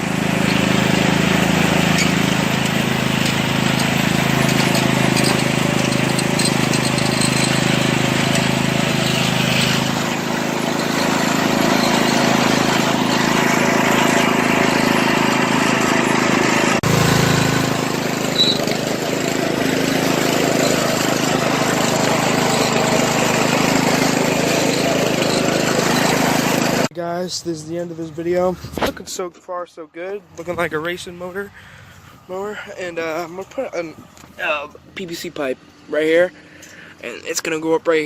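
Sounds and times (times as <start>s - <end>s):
riding lawn mower engine running: 0.0s - 29.1s, 30.2s - 38.0s.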